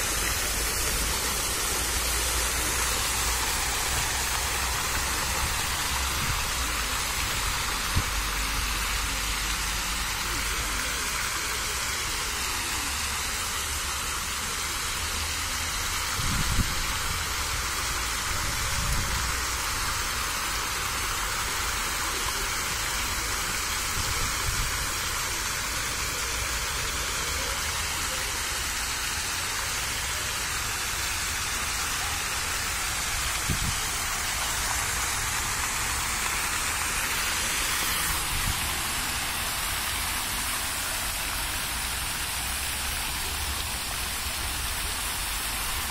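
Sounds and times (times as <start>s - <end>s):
fountain water splashing: 0.0s - 45.9s.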